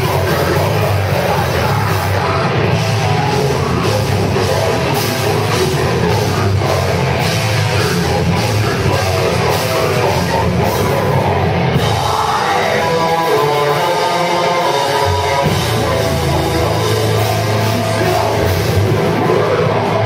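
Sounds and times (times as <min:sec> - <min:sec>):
drum kit: 0:00.0 - 0:20.0
electric guitar: 0:00.0 - 0:20.0
heavy metal band playing live: 0:00.0 - 0:20.0.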